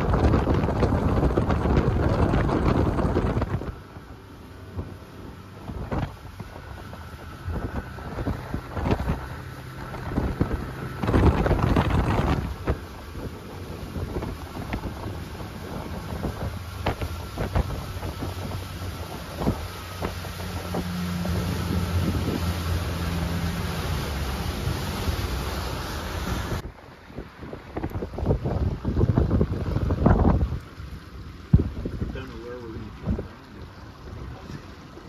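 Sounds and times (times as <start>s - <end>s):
motorboat engine hum: 0.0s - 35.0s
wind buffeting microphone: 0.0s - 35.0s.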